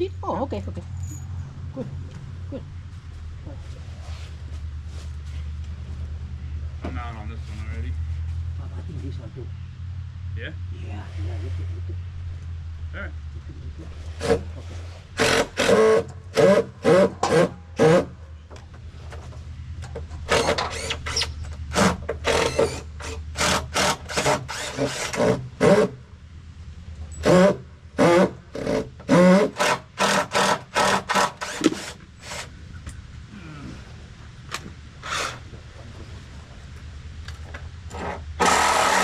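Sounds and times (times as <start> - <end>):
low hum: 0.0 - 29.1, 30.7 - 39.0.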